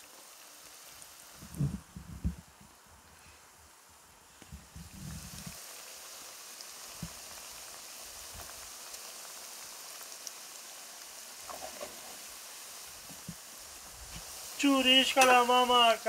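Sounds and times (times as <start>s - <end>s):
pastries deep-frying in oil: 0.0s - 16.0s.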